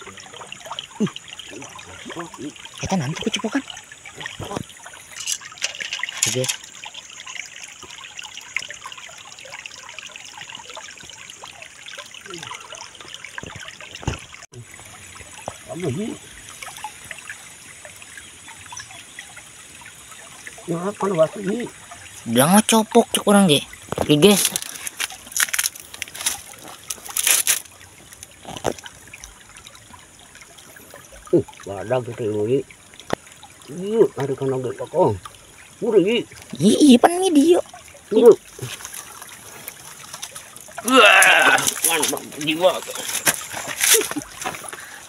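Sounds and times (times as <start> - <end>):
stream trickling over rocks: 0.0 - 45.0
water splashing and sloshing: 0.0 - 45.0.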